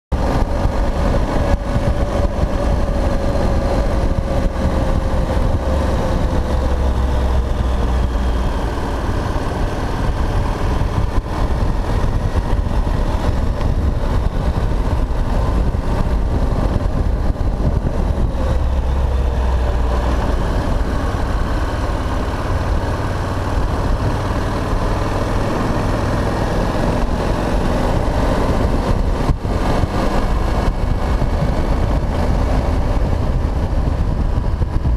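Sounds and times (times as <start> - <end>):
motorcycle engine running: 0.1 - 34.9
wind rumble on microphone: 0.1 - 34.9.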